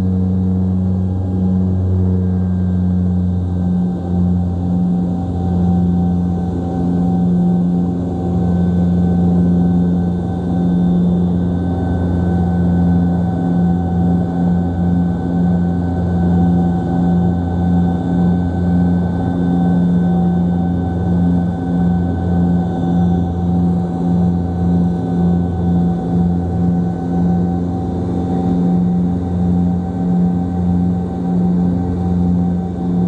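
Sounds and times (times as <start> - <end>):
turboprop engines droning: 0.0 - 33.0.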